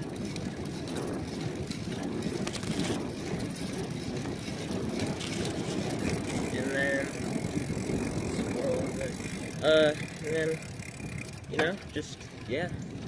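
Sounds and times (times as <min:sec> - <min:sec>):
bicycle clicks and rattles: 0:00.0 - 0:13.0
wind and road noise: 0:00.0 - 0:13.0.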